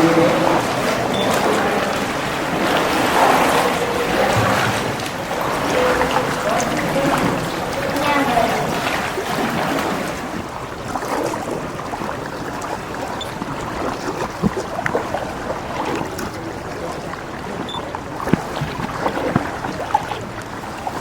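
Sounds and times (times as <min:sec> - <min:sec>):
water splashing around canoe: 0:00.0 - 0:21.0.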